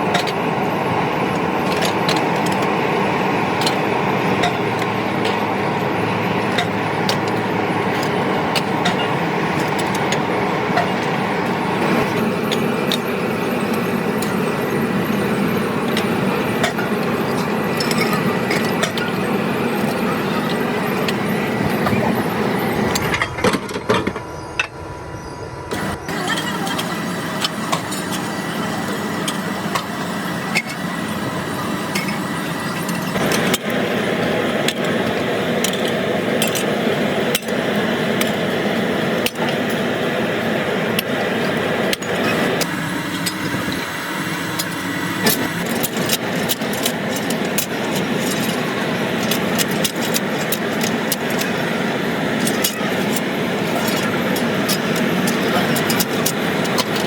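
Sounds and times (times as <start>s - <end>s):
factory machinery running: 0.0s - 57.0s.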